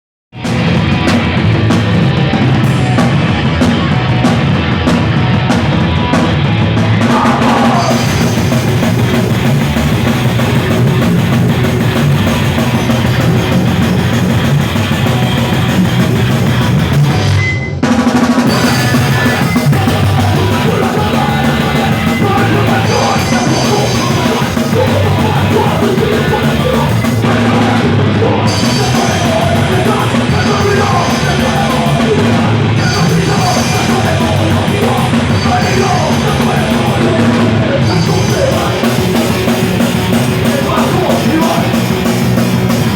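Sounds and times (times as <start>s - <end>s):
bass guitar: 0.3s - 42.9s
distorted guitars: 0.3s - 42.9s
fast drum kit: 0.4s - 42.9s.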